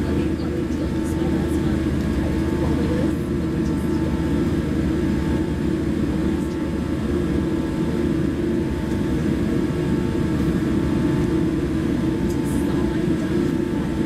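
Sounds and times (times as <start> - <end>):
faint jet engine whine: 0.0 - 14.0
jet engine rumble in cabin: 0.0 - 14.0.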